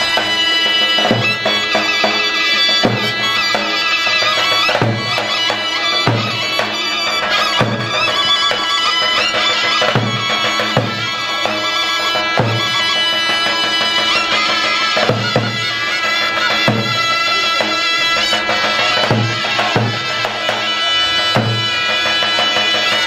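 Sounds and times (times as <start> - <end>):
shrill reedy wind instrument: 0.0 - 23.0.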